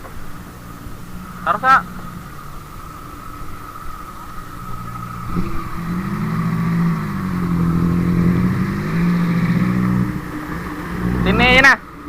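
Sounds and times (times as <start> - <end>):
engine running: 0.0 - 12.0
steady high whine: 0.0 - 12.0.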